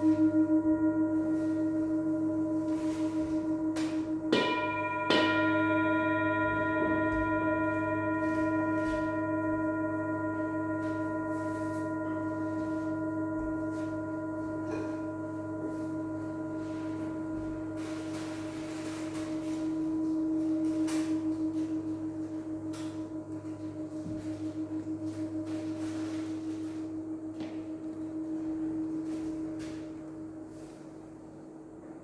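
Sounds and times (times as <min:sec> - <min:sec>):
singing bowl strikes ringing: 0:00.0 - 0:31.0
low steady bowl tone: 0:00.0 - 0:32.0.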